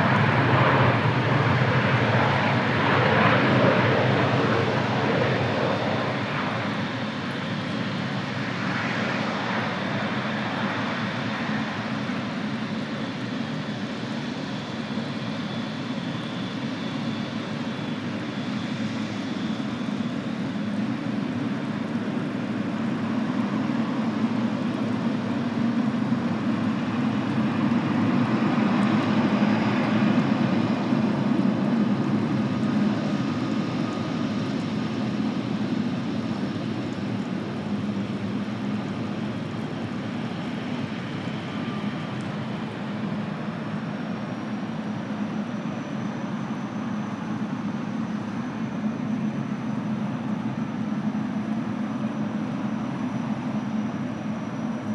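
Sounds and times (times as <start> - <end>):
jet engines rumbling: 0.0 - 54.9.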